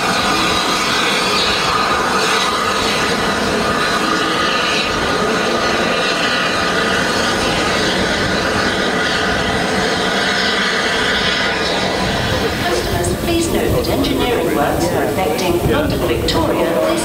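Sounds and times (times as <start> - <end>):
faint steady tones: 0.0 - 17.0
steam locomotive hiss and rumble: 0.0 - 17.0.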